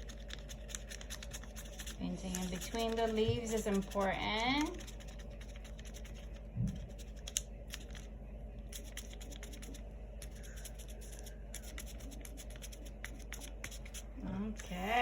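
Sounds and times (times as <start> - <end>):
paintbrush dabbing on paper: 0.0 - 8.0, 8.7 - 14.1.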